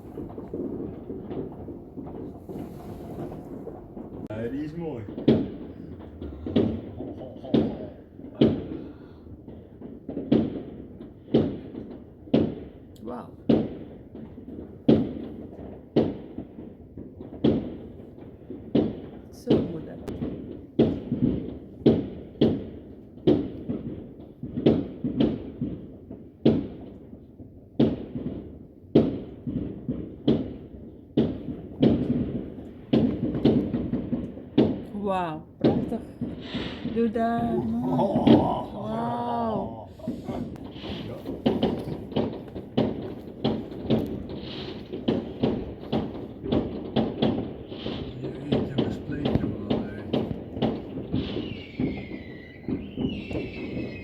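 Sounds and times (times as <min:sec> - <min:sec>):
distant fireworks: 0:00.0 - 0:54.0
firework bangs: 0:00.0 - 0:54.0.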